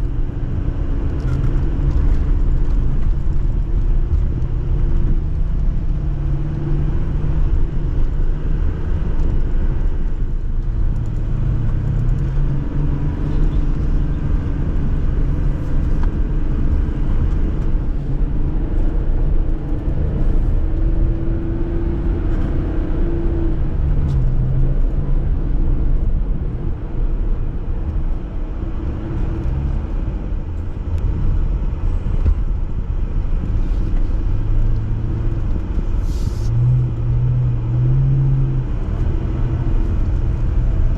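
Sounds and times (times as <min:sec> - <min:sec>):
low engine rumble: 0:00.0 - 0:40.9.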